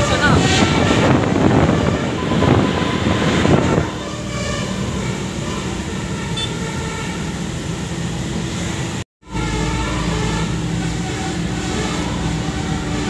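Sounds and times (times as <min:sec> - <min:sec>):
musical air horn: 0:00.0 - 0:07.5, 0:09.2 - 0:13.0
engine and road noise: 0:00.0 - 0:13.0.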